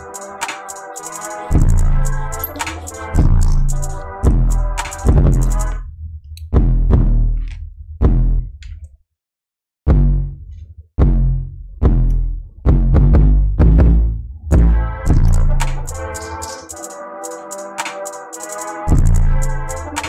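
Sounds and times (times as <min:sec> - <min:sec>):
electronic beat with deep bass hits: 0:00.0 - 0:08.6, 0:09.9 - 0:20.0.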